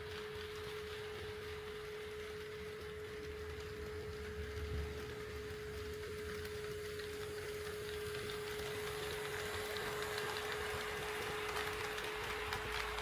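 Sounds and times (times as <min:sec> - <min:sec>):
model train rattling on track: 0:00.0 - 0:13.0.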